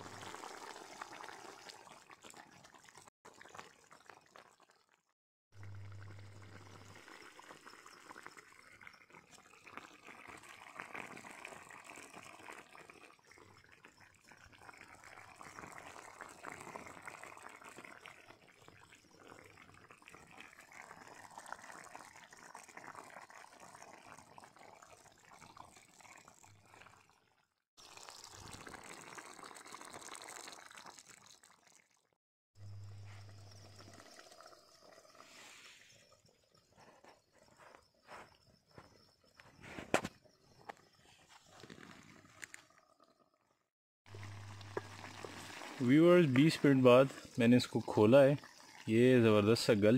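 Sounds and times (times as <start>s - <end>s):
food bubbling and sizzling: 0.0s - 49.9s.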